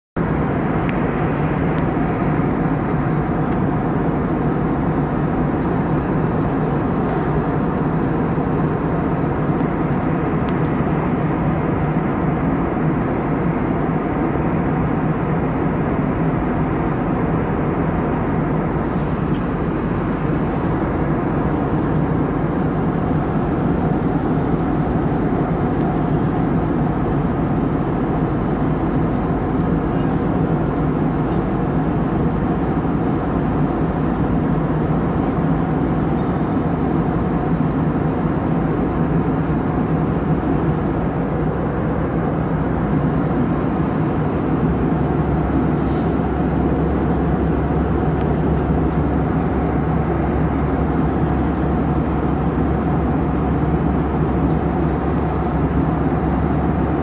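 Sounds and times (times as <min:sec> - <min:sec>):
aircraft cabin drone: 0:00.2 - 0:57.0.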